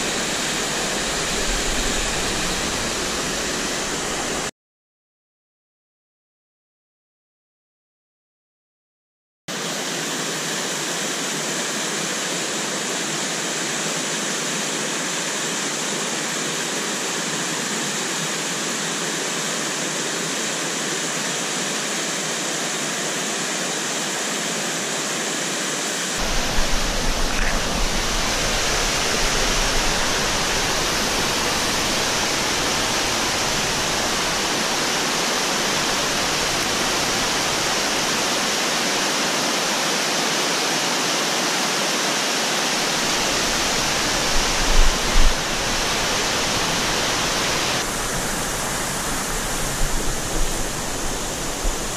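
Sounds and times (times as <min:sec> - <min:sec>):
waterfall rushing over rocks: 0:00.0 - 0:04.5, 0:09.5 - 0:51.9.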